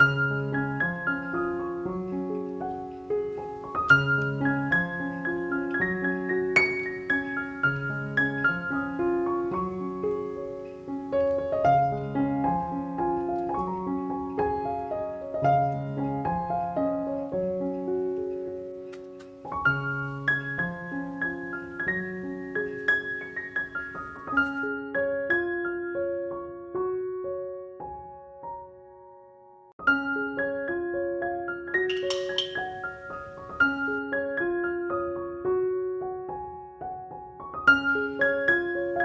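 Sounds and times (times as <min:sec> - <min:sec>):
gentle piano music: 0:00.0 - 0:39.0.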